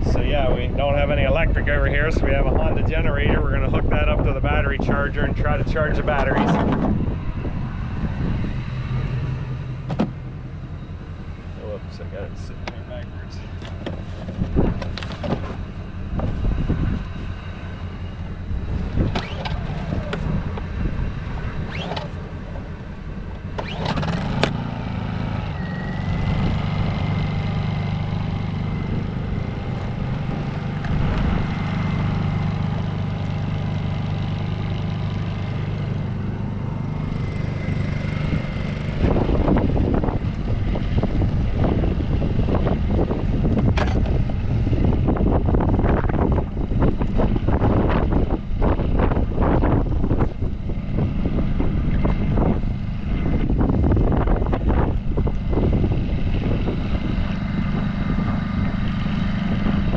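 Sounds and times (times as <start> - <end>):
wind buffeting microphone: 0.0 - 59.9
portable generator running: 3.3 - 59.9.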